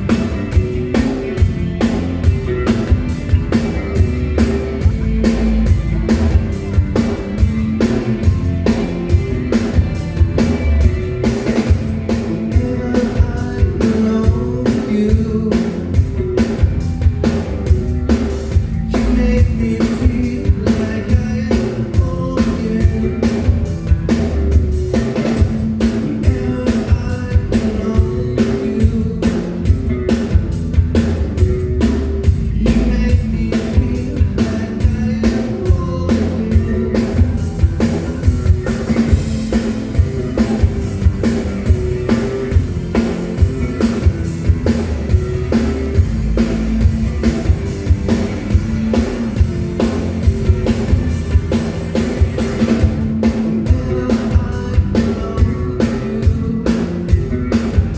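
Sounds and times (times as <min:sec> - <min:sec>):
bass guitar: 0:00.0 - 0:57.9
drum kit beat: 0:00.0 - 0:57.9
electric guitar: 0:00.0 - 0:57.9.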